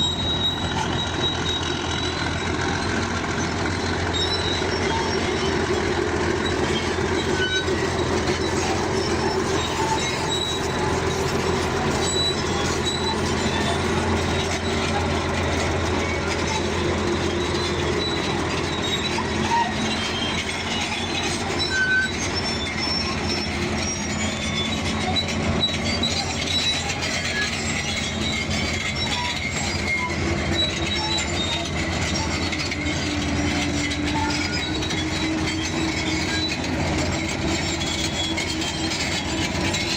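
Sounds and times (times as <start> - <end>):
crawler tracks squeaking and clanking: 0.0 - 39.9
diesel engine drone: 0.0 - 39.9.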